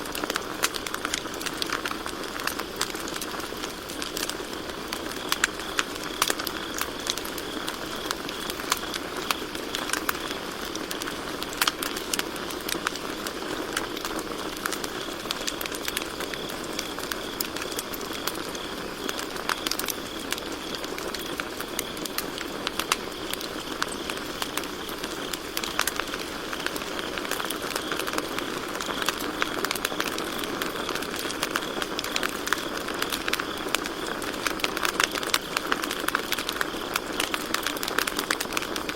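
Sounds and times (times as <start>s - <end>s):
campfire crackling and popping: 0.0s - 38.9s
crickets trilling: 0.0s - 38.9s.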